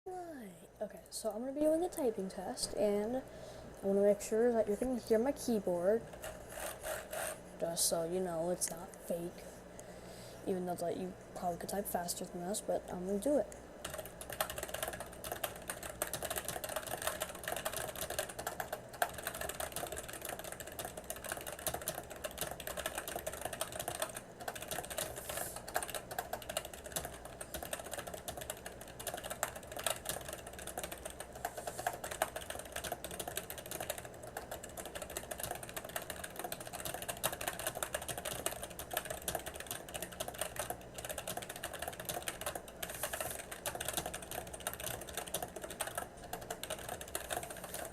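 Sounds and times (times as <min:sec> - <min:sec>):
rapid keyboard typing: 0:04.0 - 0:07.4, 0:11.7 - 0:47.9.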